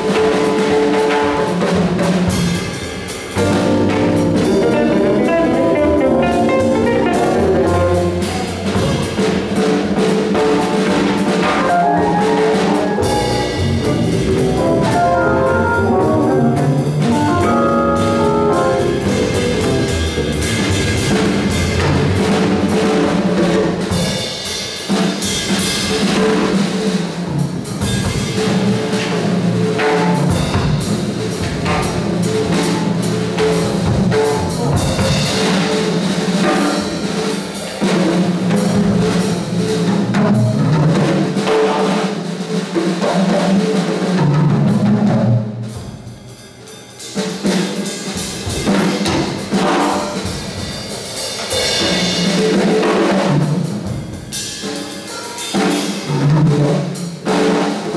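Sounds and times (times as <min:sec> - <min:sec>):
jazz drum kit solo: 0:00.0 - 0:57.9.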